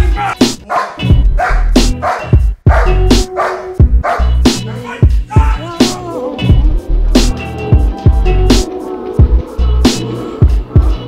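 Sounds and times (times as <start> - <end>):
music with heavy bass and drums: 0.0 - 11.0.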